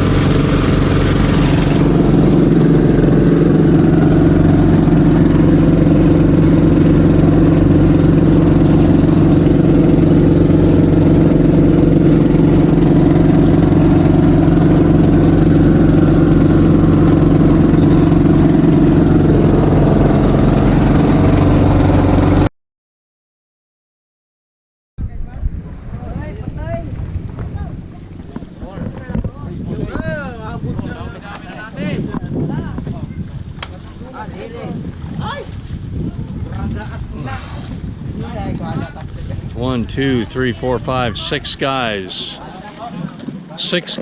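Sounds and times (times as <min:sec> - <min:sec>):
boat engine running: 0:00.0 - 0:22.5, 0:25.4 - 0:44.0.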